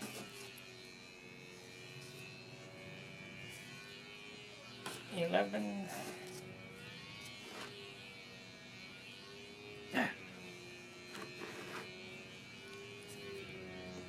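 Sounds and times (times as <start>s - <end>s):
faint steady buzz: 0.0s - 14.0s.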